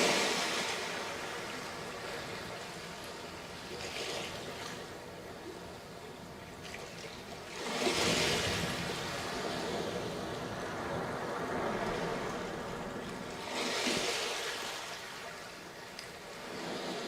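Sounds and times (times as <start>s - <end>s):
wave wash running up sand: 0.0s - 17.0s
waves breaking on a beach: 0.0s - 17.0s.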